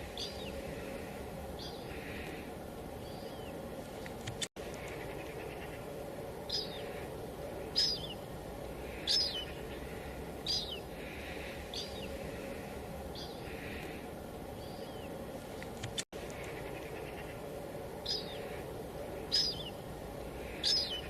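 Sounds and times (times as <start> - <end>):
bird chirping: 0.0 - 1.0, 1.6 - 2.4, 3.0 - 3.6, 4.7 - 13.9, 14.5 - 15.2, 15.8 - 21.0.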